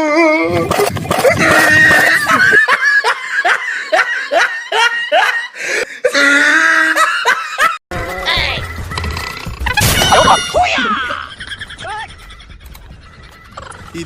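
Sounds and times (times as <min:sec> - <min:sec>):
high-pitched laughter: 0:00.4 - 0:08.6, 0:09.2 - 0:14.0.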